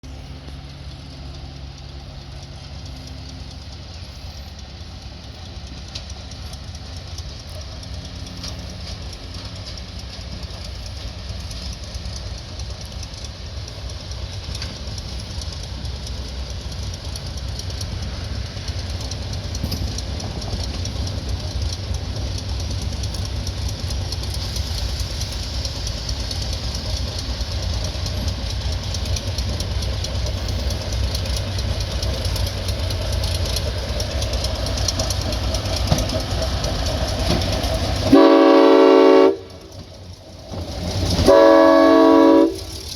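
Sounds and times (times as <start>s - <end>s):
locomotive engine running: 0.0s - 42.9s
train rumbling: 0.0s - 42.9s.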